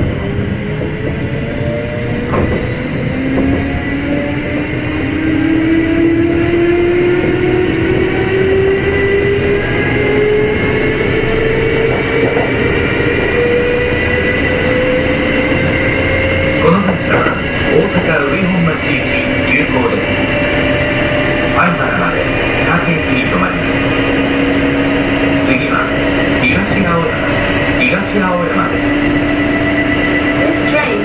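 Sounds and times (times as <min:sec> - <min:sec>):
train motors whining: 0:00.0 - 0:31.0
wheels rumbling on rails: 0:00.0 - 0:31.0.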